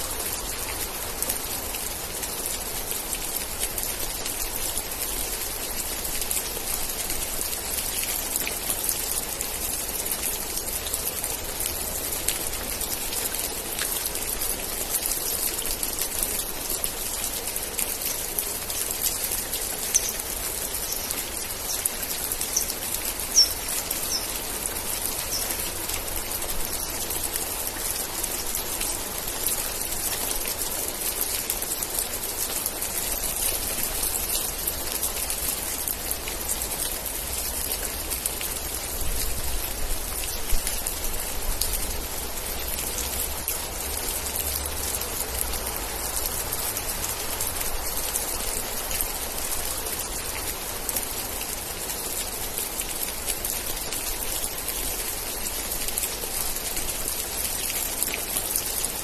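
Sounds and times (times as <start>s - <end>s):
rain falling: 0.0s - 59.0s
raindrop patter: 0.1s - 59.0s.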